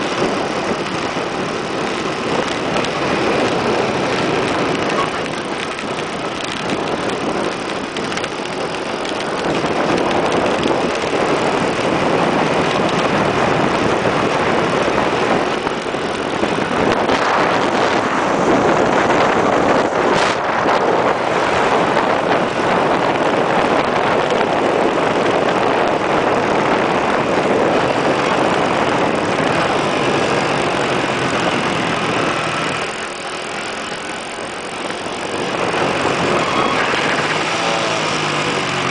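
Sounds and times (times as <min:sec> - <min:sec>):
motorbike engine: 0:00.0 - 0:38.9
rush of road noise: 0:00.0 - 0:38.9.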